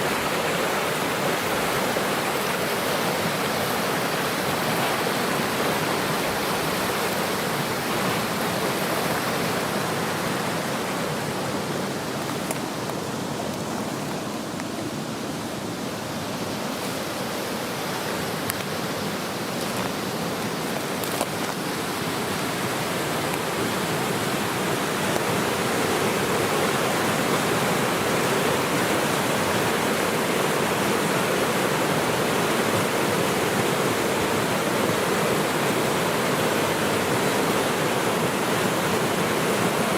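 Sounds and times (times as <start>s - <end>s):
fast-flowing stream rushing: 0.0s - 39.9s.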